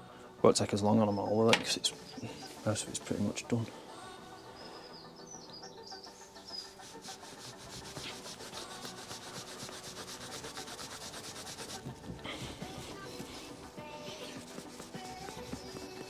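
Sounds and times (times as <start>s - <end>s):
cloth rubbing on metal: 0.8s - 4.5s, 6.0s - 16.0s.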